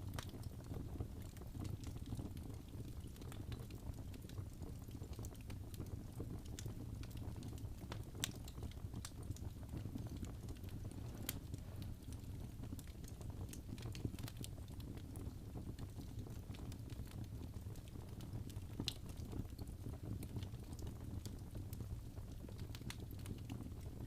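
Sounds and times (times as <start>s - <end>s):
fire crackling and popping: 0.0s - 24.0s
fire rumbling: 0.0s - 24.0s.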